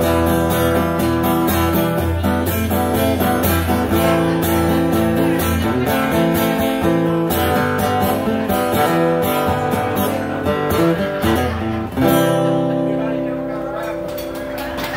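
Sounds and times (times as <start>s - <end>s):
acoustic guitar strumming: 0.0s - 14.6s.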